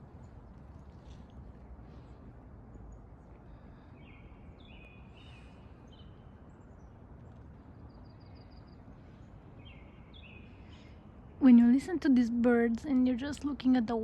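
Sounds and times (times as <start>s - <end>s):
low outdoor background noise: 0.0s - 14.0s
songbirds singing: 0.0s - 14.0s.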